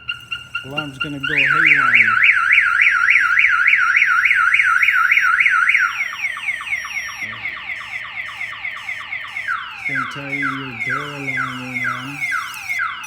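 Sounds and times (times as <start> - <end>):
car alarm siren: 0.0 - 13.0.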